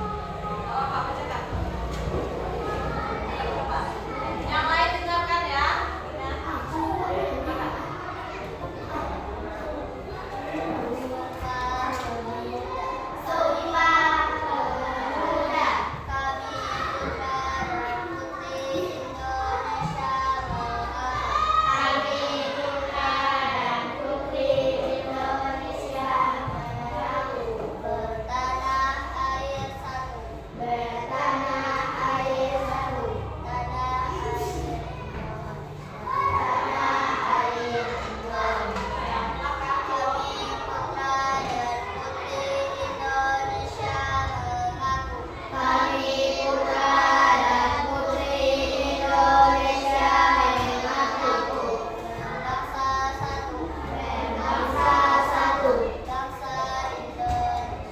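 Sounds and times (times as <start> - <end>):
child singing: 6.6 - 57.9.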